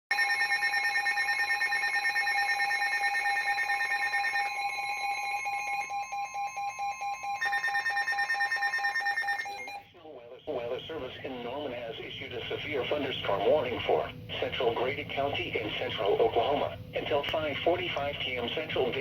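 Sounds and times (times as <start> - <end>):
steady attention tone: 0.9 - 19.0.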